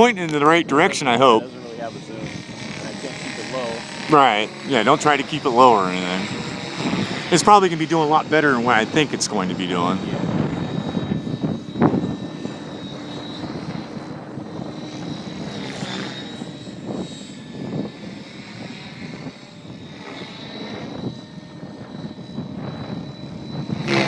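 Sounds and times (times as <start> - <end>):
electric motor whine: 0.0 - 24.0
rotor whoosh: 0.0 - 24.0.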